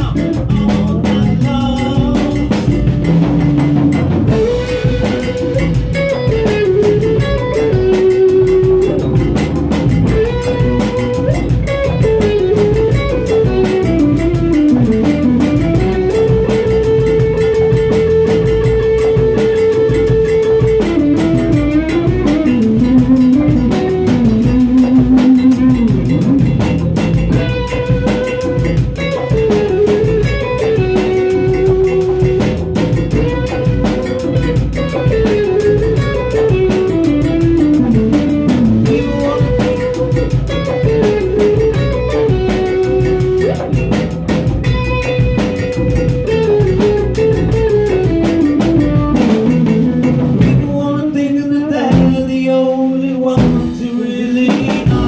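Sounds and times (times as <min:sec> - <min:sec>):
melody of held notes: 0:00.0 - 0:50.7
bass guitar: 0:00.0 - 0:55.0
drum kit: 0:00.0 - 0:55.0
guitar: 0:00.0 - 0:55.0.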